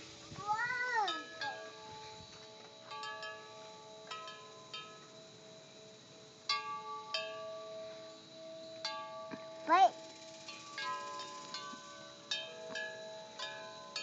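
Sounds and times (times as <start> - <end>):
faint steady high tone: 0.0 - 14.0
wind chimes ringing: 0.0 - 14.0.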